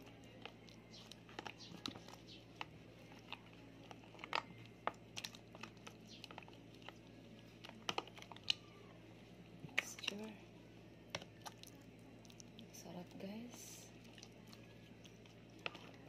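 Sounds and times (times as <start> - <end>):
hands kneading meat wet squelches: 0.0 - 10.4, 11.0 - 16.0.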